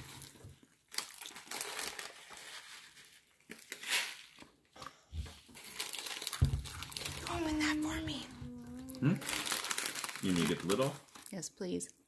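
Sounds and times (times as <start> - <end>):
plastic snack packet crinkling: 0.0 - 4.6, 5.5 - 8.2, 8.8 - 11.6.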